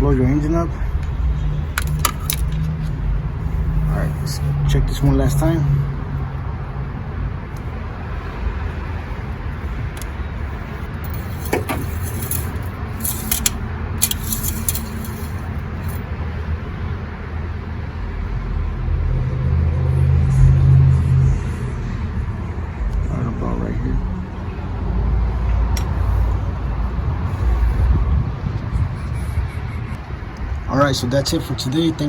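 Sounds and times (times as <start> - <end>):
low vehicle rumble: 0.0 - 30.7.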